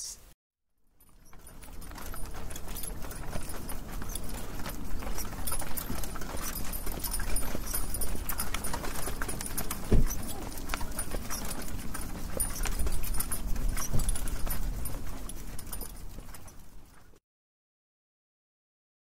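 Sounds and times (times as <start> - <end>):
horse hooves clip-clopping: 1.0 - 17.2.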